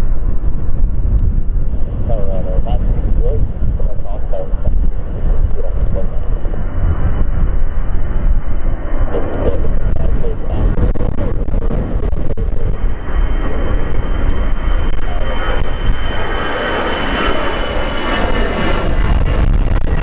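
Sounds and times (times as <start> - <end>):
airliner engines rumbling: 0.0 - 20.0
wind buffeting microphone: 0.0 - 20.0.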